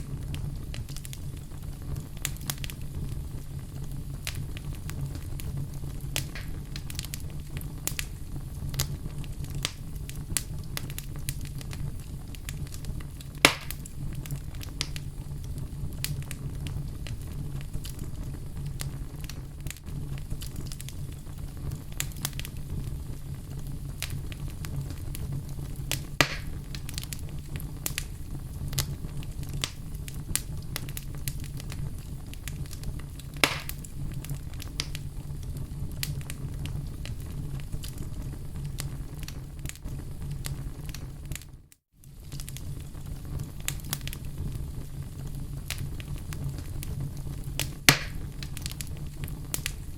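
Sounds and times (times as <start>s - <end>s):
fireplace fire crackling: 0.0s - 49.9s
loud fire pops: 0.0s - 49.9s.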